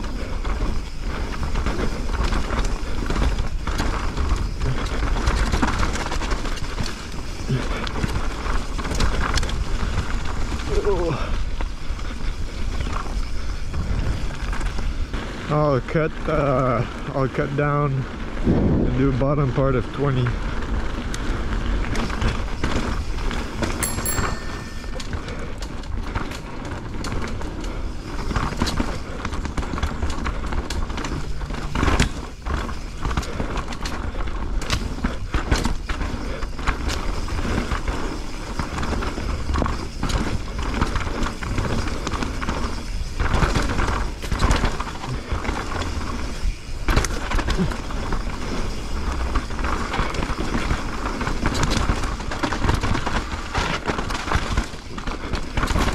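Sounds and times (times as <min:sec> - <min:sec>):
bike knocking and rattling: 0:00.0 - 0:55.9
bike tyre and wind noise: 0:00.0 - 0:55.9.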